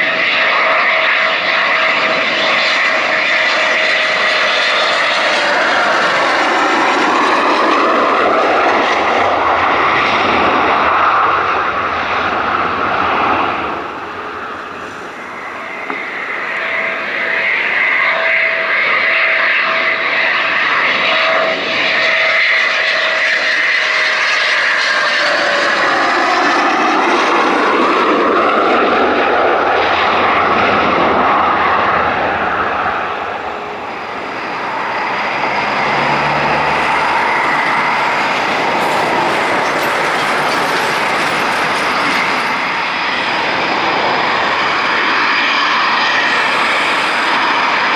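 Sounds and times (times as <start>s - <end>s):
thin whine: 0.0s - 27.2s, 27.8s - 47.9s
jet engines roaring past: 0.0s - 47.9s.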